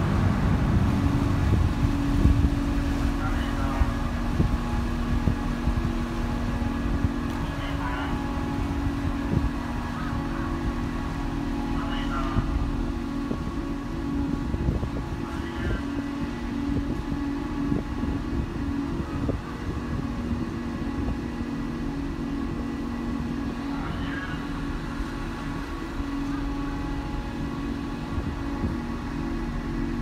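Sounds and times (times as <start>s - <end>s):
ship machinery humming: 0.0s - 30.0s
wind rumble on microphone: 0.0s - 30.0s.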